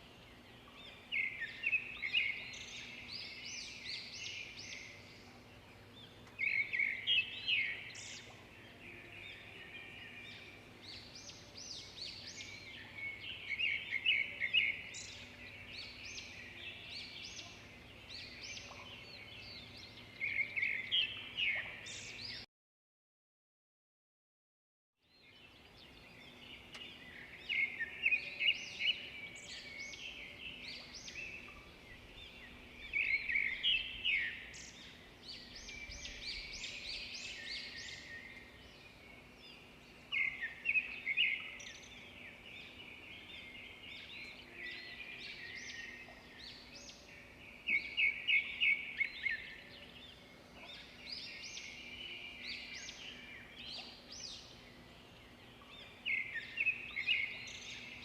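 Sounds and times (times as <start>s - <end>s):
birds chirping and singing: 0.0s - 22.4s, 25.0s - 58.0s.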